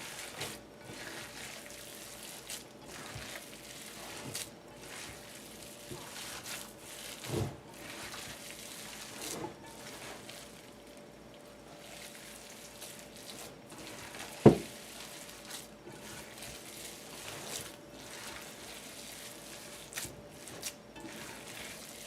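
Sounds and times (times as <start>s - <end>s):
hands squishing ground meat: 0.0s - 10.7s, 11.8s - 22.0s.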